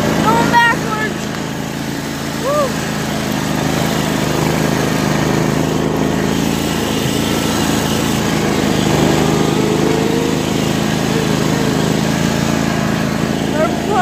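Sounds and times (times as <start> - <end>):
riding lawn mower engine running: 0.0 - 14.0.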